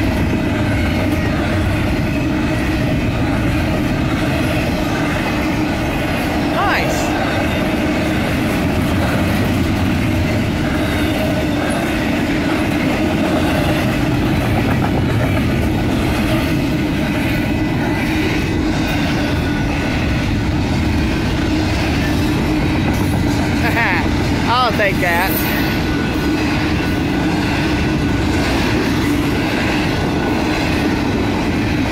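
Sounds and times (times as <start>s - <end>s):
freight train wheels rumbling on rails: 0.0s - 31.9s.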